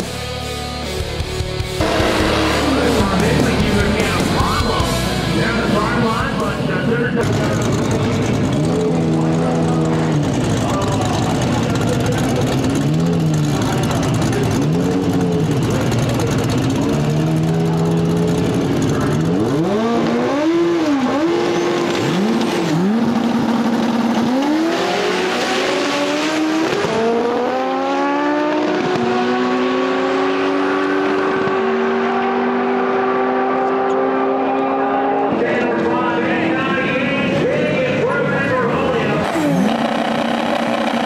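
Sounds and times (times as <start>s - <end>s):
race car engine revving and launching: 1.8s - 37.4s, 38.6s - 41.0s
opposing race car: 1.8s - 41.0s.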